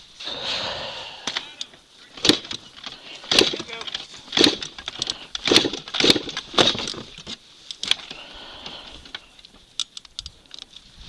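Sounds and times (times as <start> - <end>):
dry brush and twigs crunching: 1.2 - 11.0.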